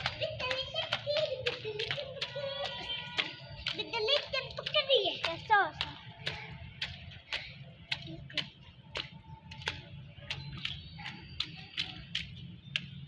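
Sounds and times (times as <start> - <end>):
raindrops striking microphone: 0.0 - 13.0.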